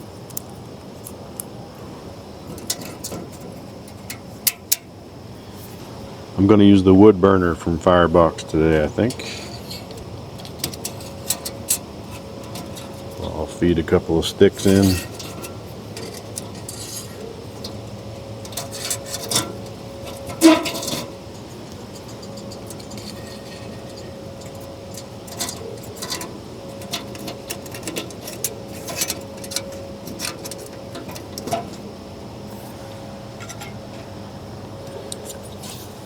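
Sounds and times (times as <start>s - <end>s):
metal camp-stove parts clattering: 0.0s - 5.9s, 6.8s - 36.0s.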